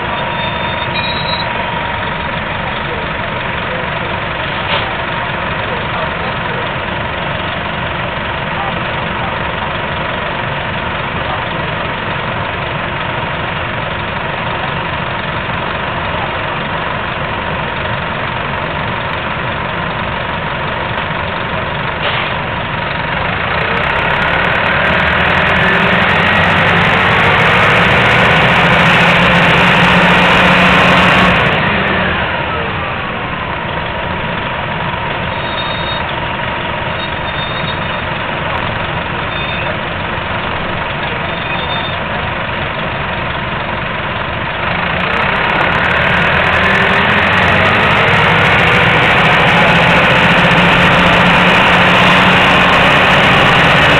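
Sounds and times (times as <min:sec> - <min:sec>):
bus diesel engine: 0:00.0 - 0:53.9.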